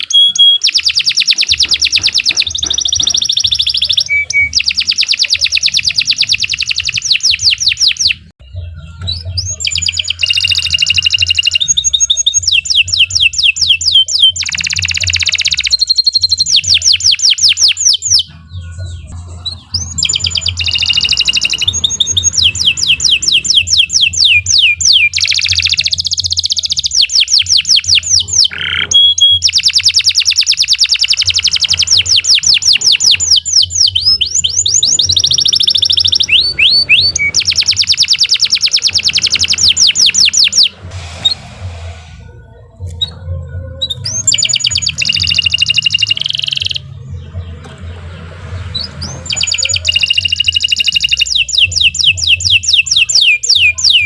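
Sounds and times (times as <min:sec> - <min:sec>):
canary singing trills: 0:00.0 - 0:41.5, 0:42.2 - 0:54.0.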